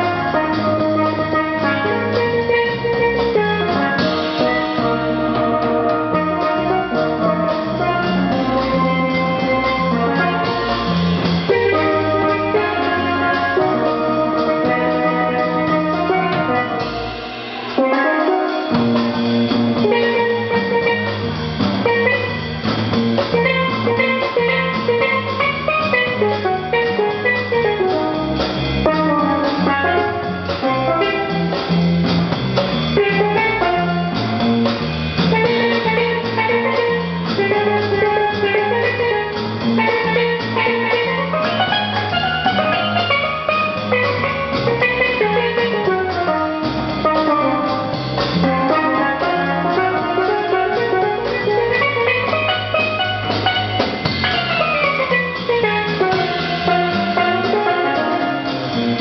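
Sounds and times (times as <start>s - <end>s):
steelpan solo: 0.0s - 32.3s, 32.9s - 59.0s
drum kit: 0.0s - 59.0s
upright double bass: 0.0s - 59.0s.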